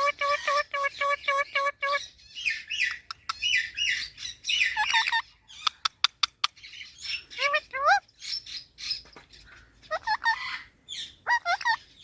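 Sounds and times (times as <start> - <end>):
starlings calling: 0.0 - 12.0.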